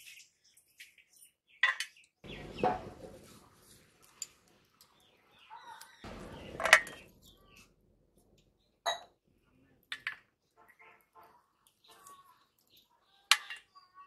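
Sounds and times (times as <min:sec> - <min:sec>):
faint bird chirping: 0:00.0 - 0:03.2, 0:04.8 - 0:09.8, 0:10.5 - 0:14.0.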